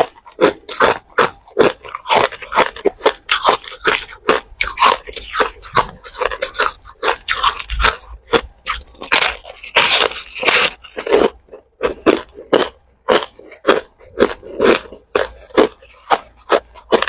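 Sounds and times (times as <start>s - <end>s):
person crunching ice cubes: 0.0s - 17.0s.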